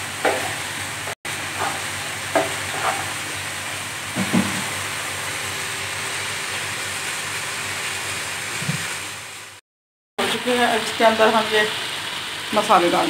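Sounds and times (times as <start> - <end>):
water boiling in a pot: 0.0 - 9.6, 10.2 - 13.0.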